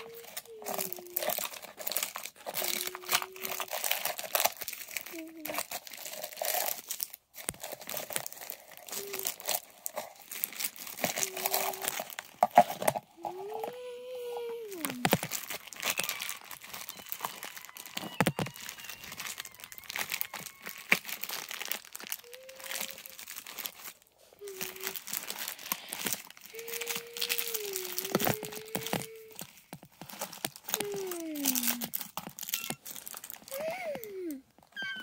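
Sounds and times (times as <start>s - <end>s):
plastic wrappers crinkling: 0.0s - 35.0s.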